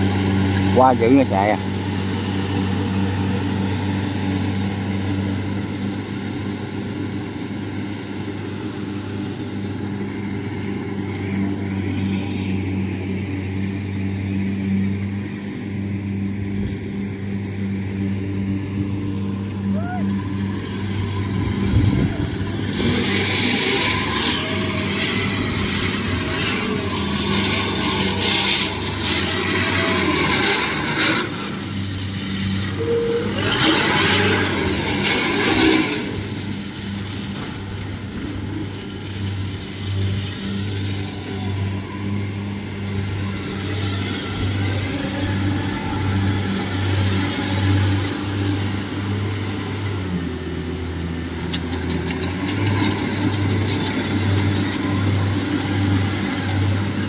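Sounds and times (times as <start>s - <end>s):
harvester engines running: 0.0s - 57.0s.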